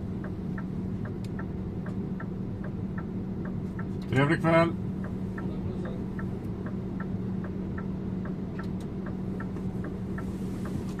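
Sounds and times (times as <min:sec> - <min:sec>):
bus indicator ticking: 0:00.0 - 0:11.0
low hum of bus: 0:00.0 - 0:11.0.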